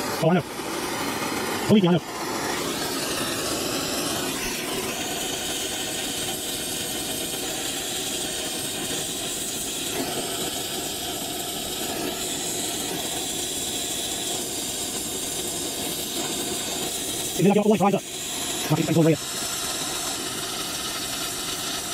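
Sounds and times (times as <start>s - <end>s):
torch flame hissing: 0.0s - 21.9s.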